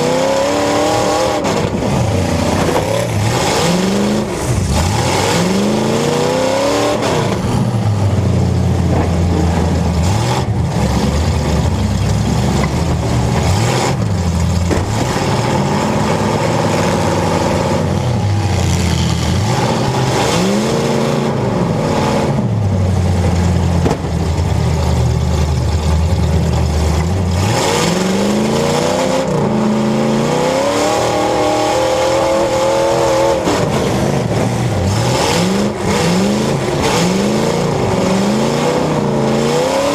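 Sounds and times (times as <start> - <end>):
car engines revving hard: 0.0 - 39.9.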